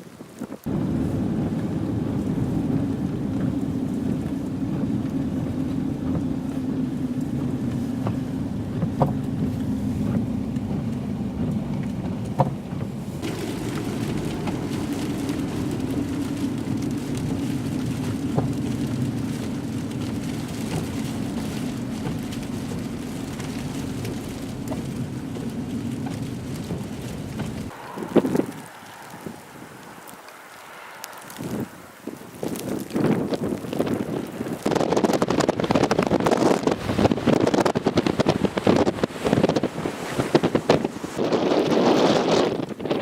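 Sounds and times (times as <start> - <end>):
tyre and wind hiss: 0.0 - 43.0
car driving on snow: 0.3 - 43.0.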